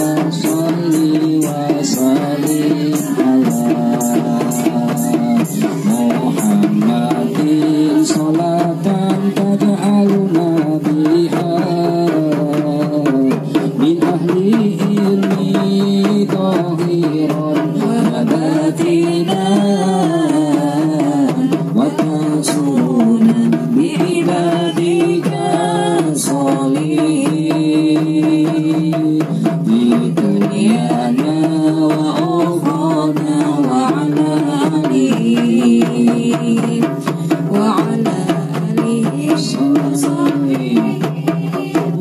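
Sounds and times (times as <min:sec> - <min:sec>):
frame drums beating: 0:00.0 - 0:42.0
group singing devotional song: 0:00.0 - 0:42.0.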